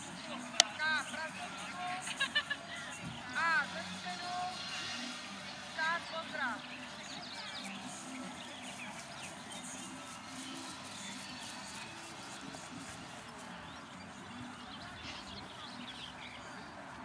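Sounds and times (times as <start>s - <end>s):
murmur of distant voices: 0.0s - 17.0s
small birds chirping: 0.0s - 17.0s.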